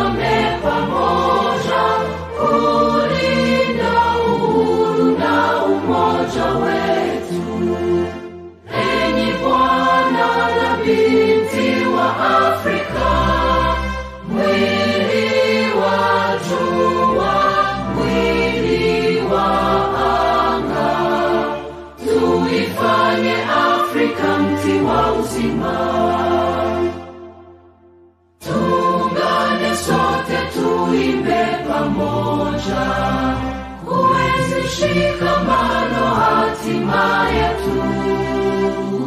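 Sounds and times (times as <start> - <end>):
choir singing: 0.0 - 39.0
musical backing: 0.0 - 39.0.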